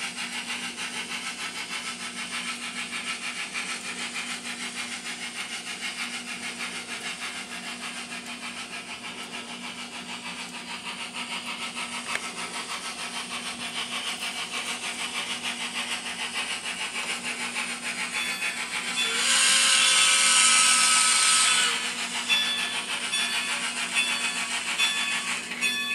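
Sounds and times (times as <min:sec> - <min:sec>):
steam exhaust chuffs from speaker: 0:00.0 - 0:25.9.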